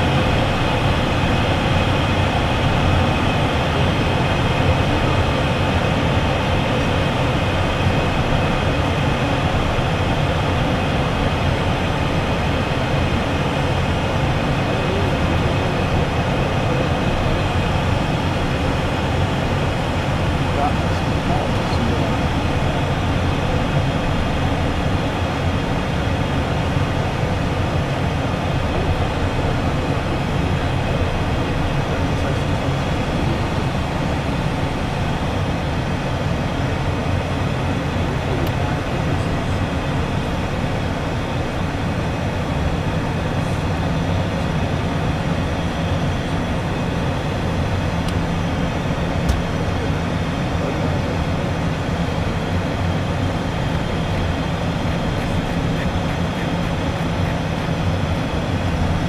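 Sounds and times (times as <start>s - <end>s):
jet engines humming: 0.0s - 59.0s.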